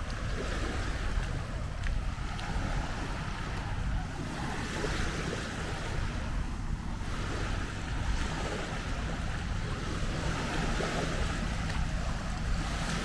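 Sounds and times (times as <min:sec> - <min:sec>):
small waves washing over sand: 0:00.0 - 0:13.0
wind rumbling on microphone: 0:00.0 - 0:13.0.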